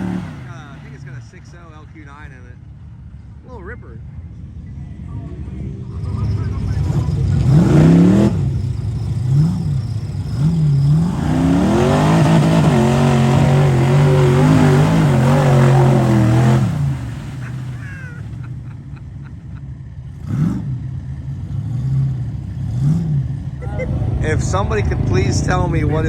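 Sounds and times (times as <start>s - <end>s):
engine revving: 0.0s - 2.6s, 5.3s - 26.0s.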